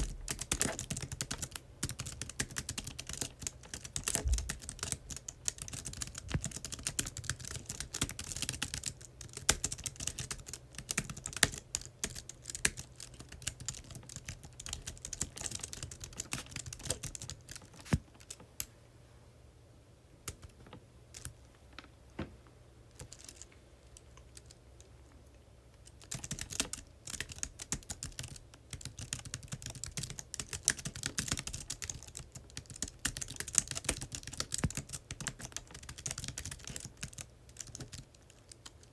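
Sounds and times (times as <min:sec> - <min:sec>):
typing on computer keyboard: 0:00.0 - 0:18.4, 0:23.0 - 0:23.4, 0:25.8 - 0:38.9.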